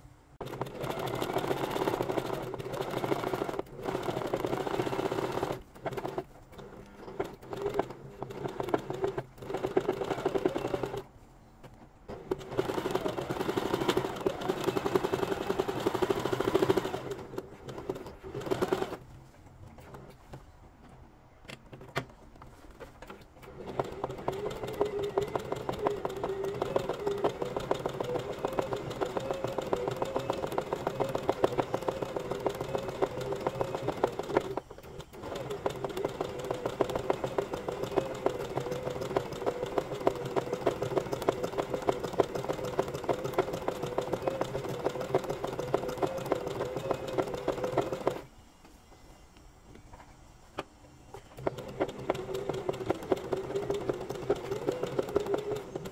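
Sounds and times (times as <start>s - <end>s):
sewing machine stitching: 0.4s - 11.1s, 12.1s - 19.0s, 23.1s - 48.3s, 51.1s - 55.9s.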